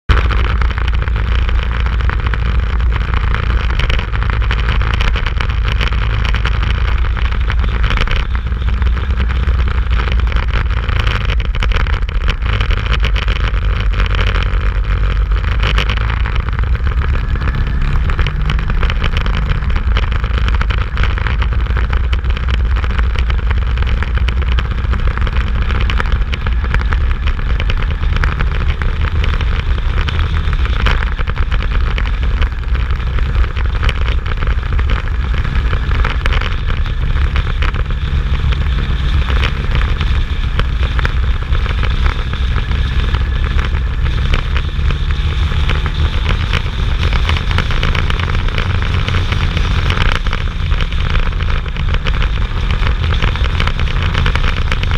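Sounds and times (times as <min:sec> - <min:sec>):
motorcycle engine running: 0:00.0 - 0:54.9
wind rumble on microphone: 0:00.0 - 0:54.9.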